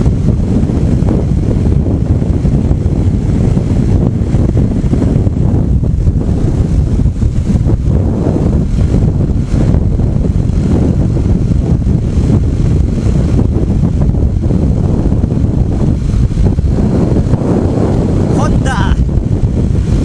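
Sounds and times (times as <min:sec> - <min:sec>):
motorcycle ride rumble: 0:00.0 - 0:20.0
wind buffeting microphone: 0:00.0 - 0:20.0.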